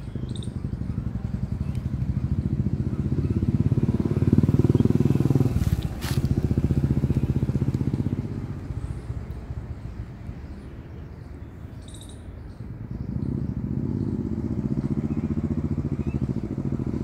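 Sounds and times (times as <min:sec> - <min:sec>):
single-cylinder motorcycle engine: 0:00.0 - 0:09.8, 0:13.0 - 0:17.0.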